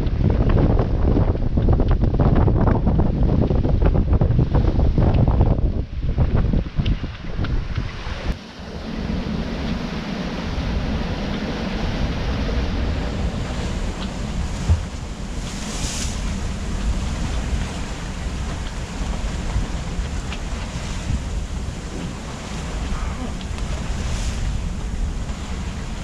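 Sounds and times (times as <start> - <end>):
sea water rushing past yacht: 0.0 - 26.0
wind buffeting microphone: 0.0 - 26.0.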